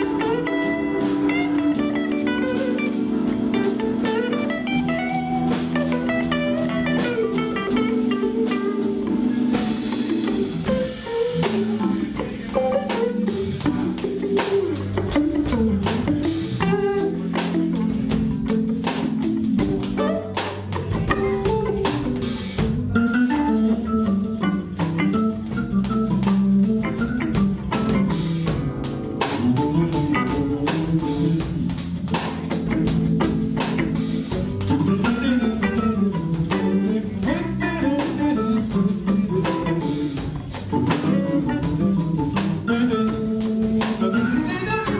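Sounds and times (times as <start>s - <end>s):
drums with cymbals: 0.0s - 44.9s
guitar melodic lines: 0.0s - 44.9s
organ sustained chords: 0.0s - 44.9s.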